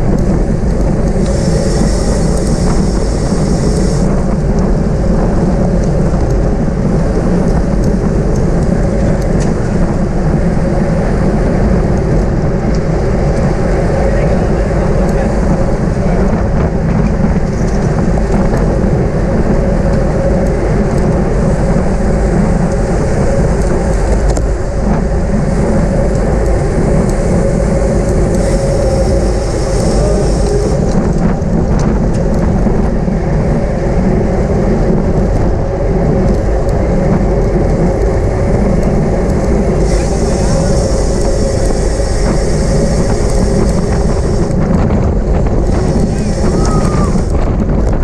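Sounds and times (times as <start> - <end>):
bicycle tyre road noise: 0.0 - 48.0
wind buffeting microphone: 0.0 - 48.0.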